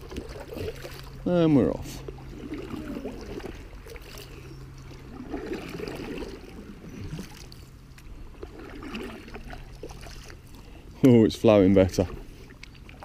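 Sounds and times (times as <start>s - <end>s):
paddle strokes in water: 0.0s - 13.0s
small water splashes: 0.0s - 13.0s
water lapping at hull: 0.0s - 13.0s.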